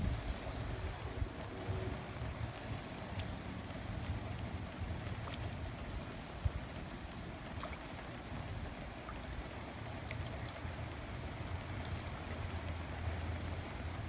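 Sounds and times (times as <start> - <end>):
rain falling on a lake: 0.0 - 14.0.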